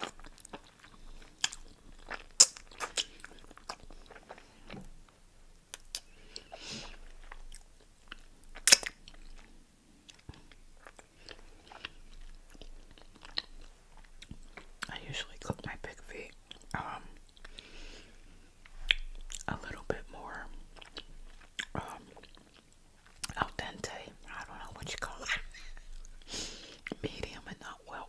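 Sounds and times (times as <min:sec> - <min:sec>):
person chewing wetly: 0:00.0 - 0:14.9, 0:16.3 - 0:19.9, 0:20.5 - 0:27.0.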